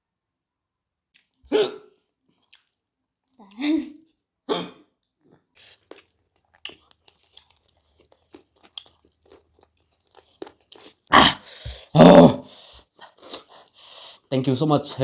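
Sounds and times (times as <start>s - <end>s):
person chewing and crunching food: 1.1s - 4.2s, 5.2s - 14.3s.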